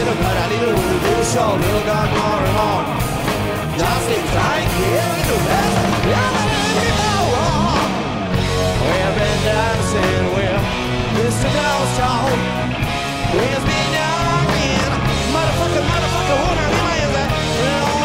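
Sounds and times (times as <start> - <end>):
person singing: 0.0 - 18.0
rock band playing: 0.0 - 18.0.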